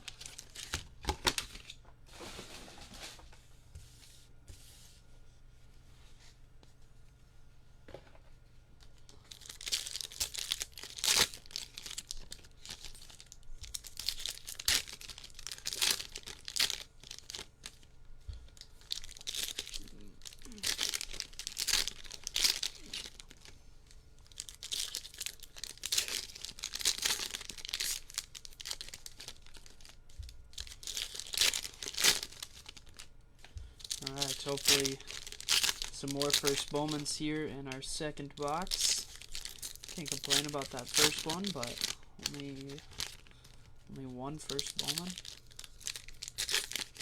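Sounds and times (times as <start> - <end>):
plastic wrappers tearing and crumpling: 0.0 - 2.4, 9.0 - 17.9, 18.5 - 23.6, 24.2 - 33.1, 33.7 - 47.0.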